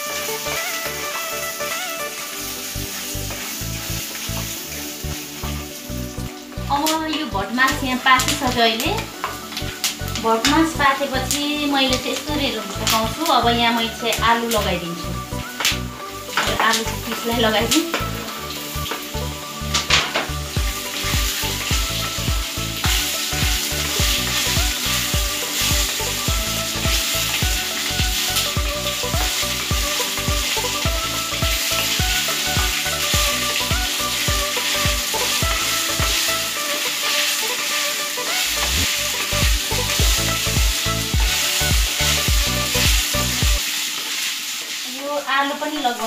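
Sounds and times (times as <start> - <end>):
potatoes sizzling in pan: 0.0 - 46.0.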